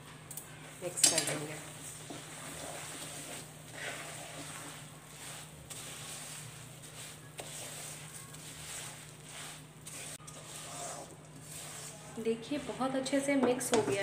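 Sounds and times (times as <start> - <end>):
spatula scraping in metal pan: 0.8 - 14.0.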